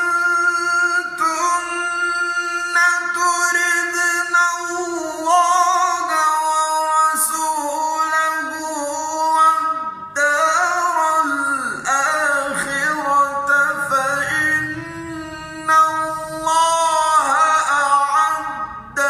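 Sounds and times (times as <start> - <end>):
man chanting melodically: 0.0 - 19.0.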